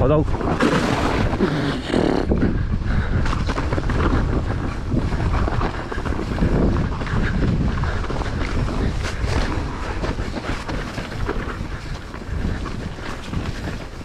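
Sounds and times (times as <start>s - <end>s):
bike rattling over bumps: 0.0s - 14.0s
wind on microphone: 0.0s - 14.0s.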